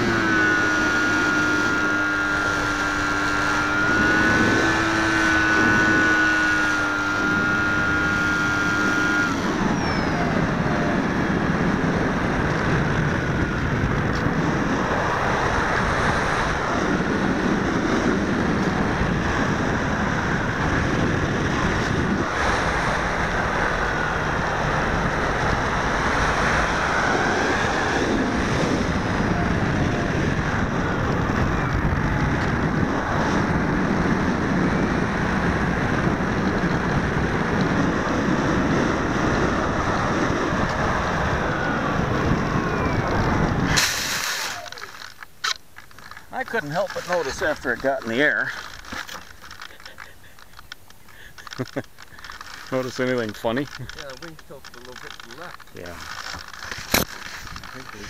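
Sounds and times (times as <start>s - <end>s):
model plane motor whining: 0.0s - 58.0s
wind rushing over microphone: 0.0s - 58.0s.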